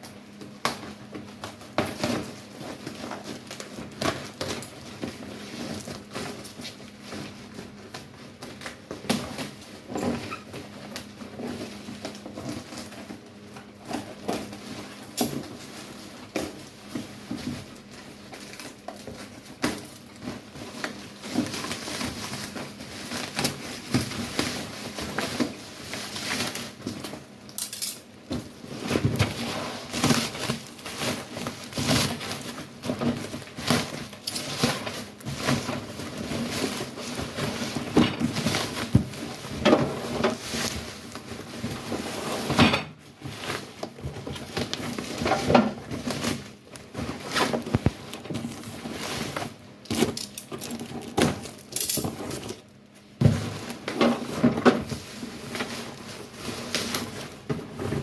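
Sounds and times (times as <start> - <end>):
packaging rustling: 0.4 - 58.0.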